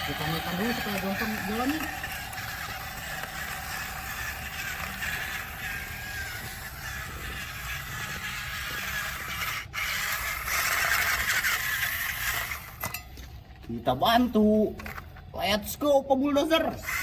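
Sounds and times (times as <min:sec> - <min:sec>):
small electric motors whining: 0:00.0 - 0:13.2, 0:16.4 - 0:17.0.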